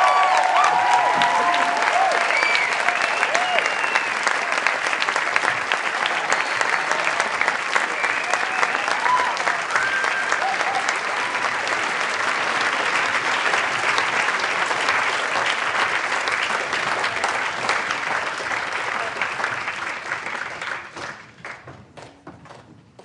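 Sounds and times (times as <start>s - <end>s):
studio audience applauding: 0.0s - 21.7s.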